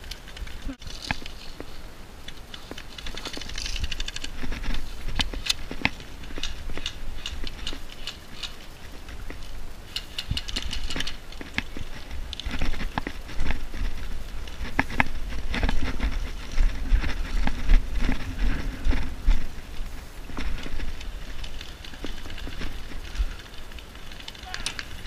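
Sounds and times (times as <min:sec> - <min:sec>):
handling and movement noise: 0:00.0 - 0:25.0.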